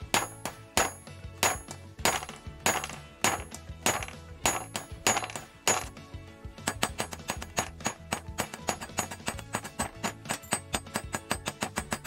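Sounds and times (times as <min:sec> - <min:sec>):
hammer striking metal wrench: 0:00.0 - 0:06.0, 0:06.6 - 0:12.0.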